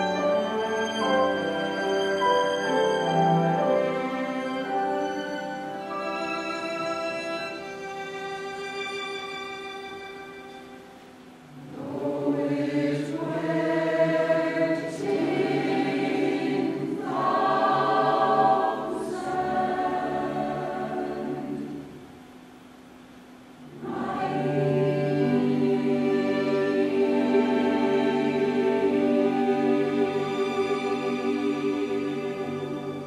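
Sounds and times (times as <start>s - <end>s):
mixed choir singing: 0.0s - 10.0s, 11.6s - 22.0s, 23.6s - 33.0s.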